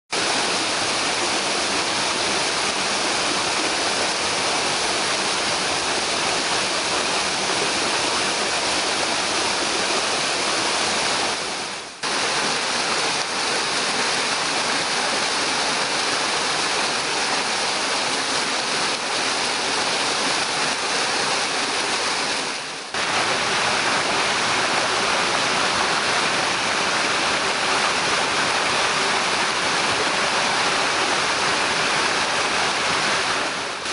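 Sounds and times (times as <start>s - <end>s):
waterfall and stream rushing: 0.2s - 33.9s.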